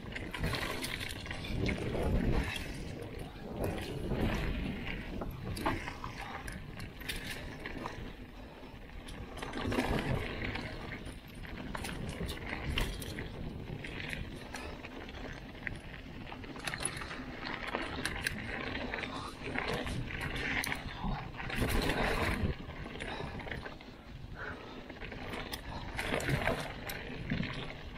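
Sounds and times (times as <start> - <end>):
bike clicking and rattling: 0.0 - 27.9
tyres rolling over dirt and leaves: 0.0 - 27.9.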